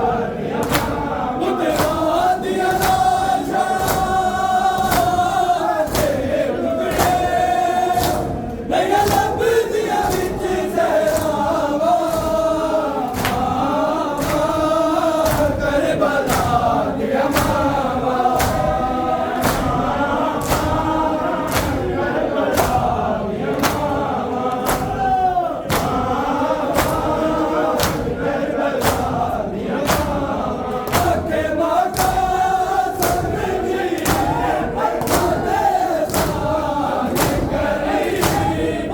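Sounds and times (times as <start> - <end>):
men chanting together: 0.0 - 38.9
rhythmic sharp strokes: 0.0 - 38.9.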